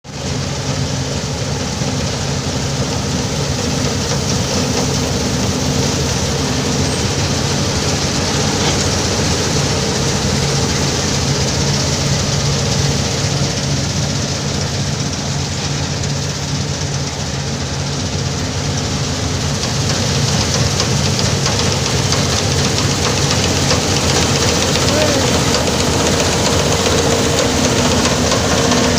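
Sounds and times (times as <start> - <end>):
engine droning: 0.1 - 28.9
machinery rushing noise: 0.2 - 28.9.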